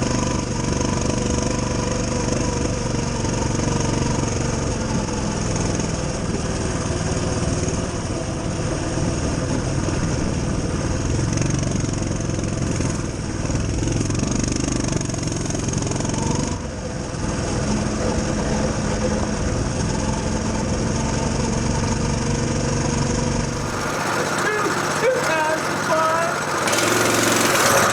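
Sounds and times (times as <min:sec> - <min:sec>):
mini bike engine running: 0:00.0 - 0:27.9.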